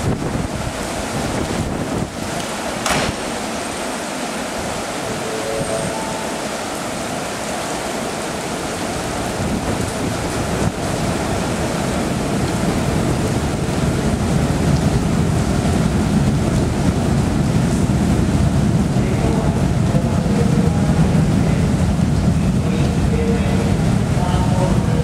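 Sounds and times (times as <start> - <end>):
heavy rain and wind: 0.0 - 25.0.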